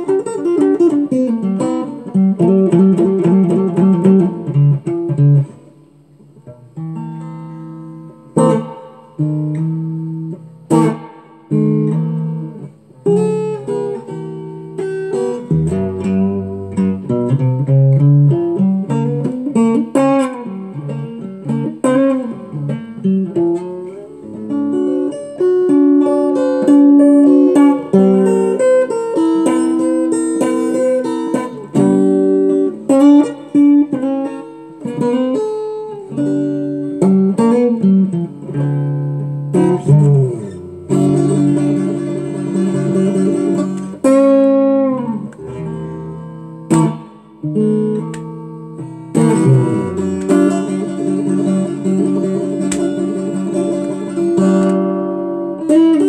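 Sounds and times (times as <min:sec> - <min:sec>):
acoustic guitar playing solo: 0:00.0 - 0:56.0.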